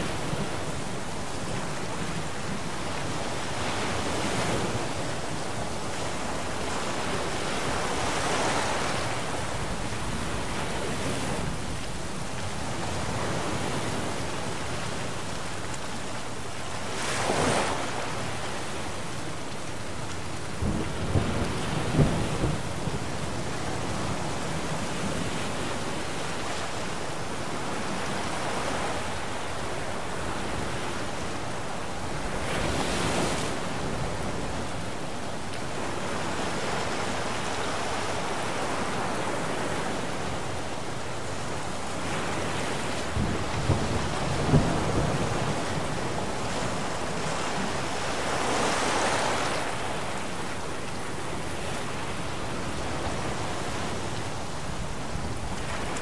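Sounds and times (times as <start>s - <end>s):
waves surging and breaking: 0.0s - 56.0s.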